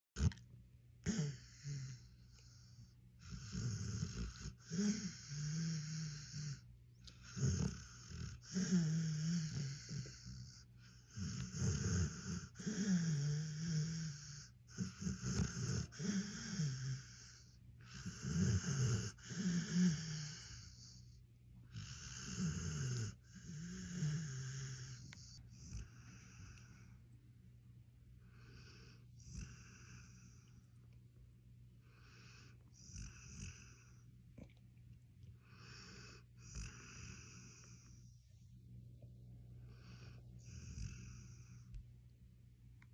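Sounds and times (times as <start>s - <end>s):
dog snoring: 1.0s - 26.9s, 28.2s - 30.6s, 31.8s - 34.6s, 35.4s - 38.2s, 39.6s - 41.8s.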